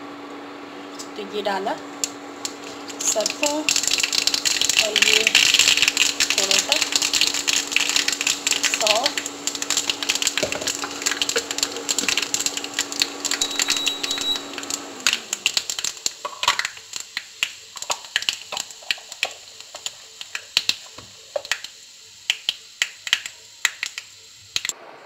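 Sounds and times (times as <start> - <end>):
steady low hum: 0.0 - 25.0
seeds crackling and popping in oil: 2.0 - 24.7.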